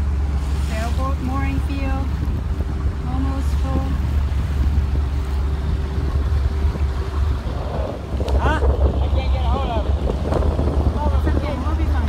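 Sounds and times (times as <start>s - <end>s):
motorboat engine running: 0.0s - 12.0s
water noise: 0.0s - 12.0s
wind on microphone: 0.0s - 12.0s.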